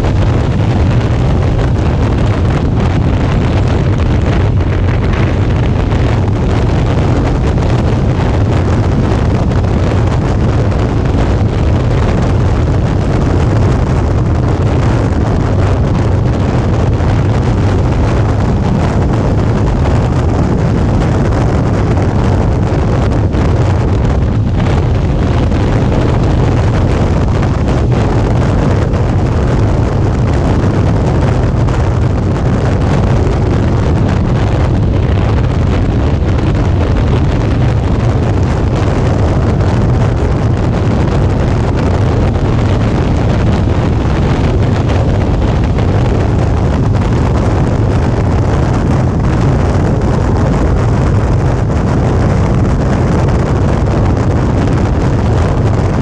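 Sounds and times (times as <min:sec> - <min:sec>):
motorcycle engine droning: 0:00.0 - 0:55.9
wind rushing over microphone: 0:00.0 - 0:56.0.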